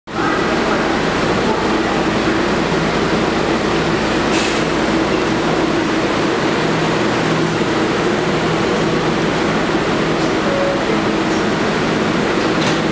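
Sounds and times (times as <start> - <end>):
train equipment hum: 0.8 - 12.9.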